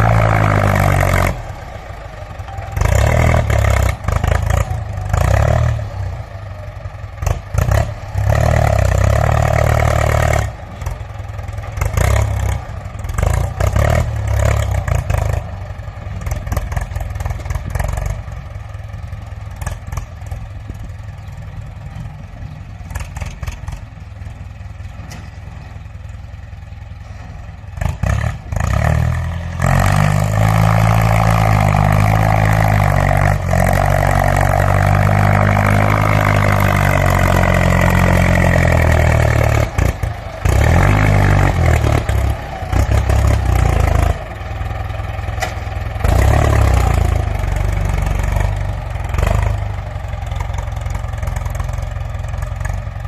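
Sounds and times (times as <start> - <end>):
tractor diesel engine revving: 0.0 - 53.0.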